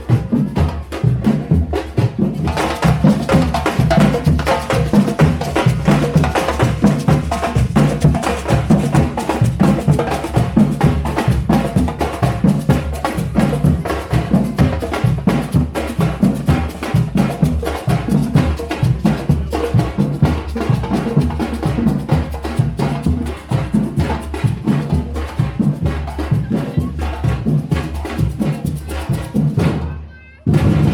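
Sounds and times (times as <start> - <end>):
drums playing fast beat: 0.0 - 30.9.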